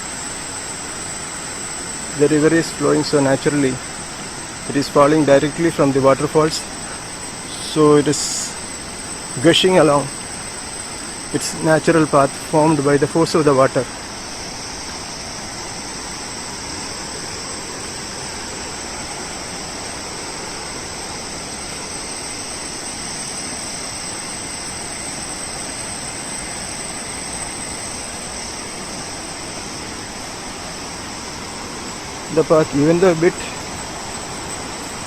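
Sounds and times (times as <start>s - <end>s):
high insect hum: 0.0s - 35.0s.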